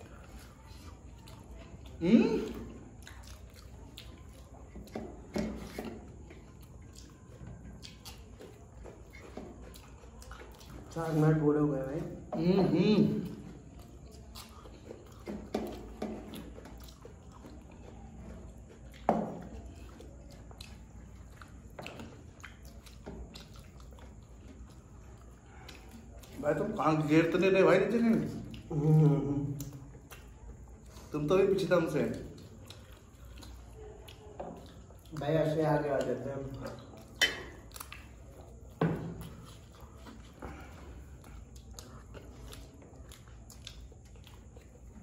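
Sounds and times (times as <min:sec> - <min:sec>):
faint chewing: 0:00.0 - 0:45.0
soft wet clicks and smacks: 0:00.6 - 0:11.0, 0:13.3 - 0:28.7, 0:29.4 - 0:45.0.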